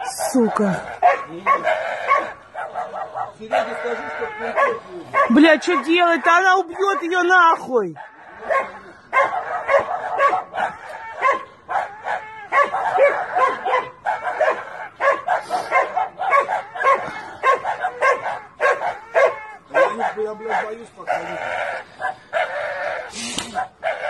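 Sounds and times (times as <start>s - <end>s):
small dog yelping: 0.0s - 21.4s.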